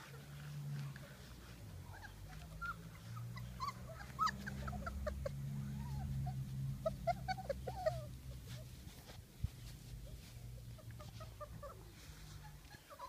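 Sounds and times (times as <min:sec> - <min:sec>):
low steady rumble: 0:00.1 - 0:12.8
puppies whimpering and squeaking: 0:01.8 - 0:13.0.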